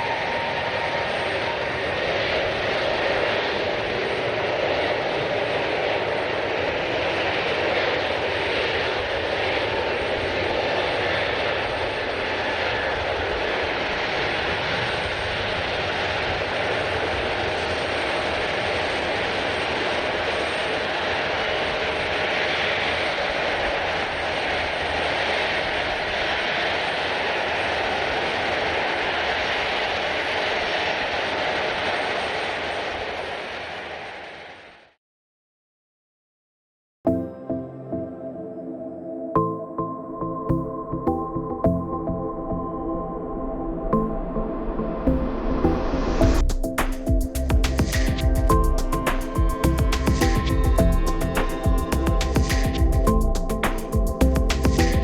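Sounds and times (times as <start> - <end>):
jet engines running: 0.0 - 35.0, 41.8 - 55.0.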